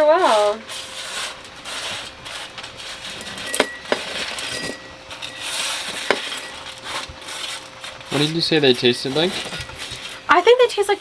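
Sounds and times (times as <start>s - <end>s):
crunching pumpkin seeds: 0.0s - 10.8s
steady background hiss: 0.0s - 11.0s.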